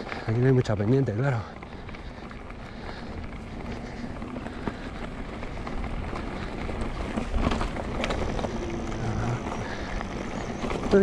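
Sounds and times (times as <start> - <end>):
bike clattering over rough ground: 0.0 - 11.0
bike tyres rolling on dirt: 0.0 - 11.0.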